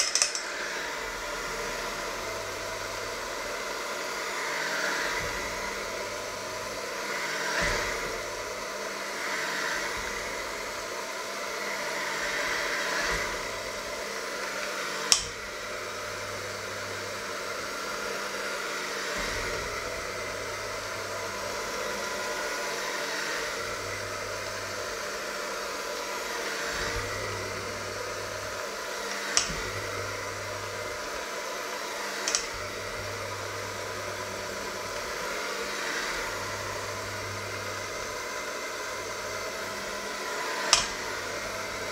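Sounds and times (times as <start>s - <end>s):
electric mixer running: 0.0s - 41.9s.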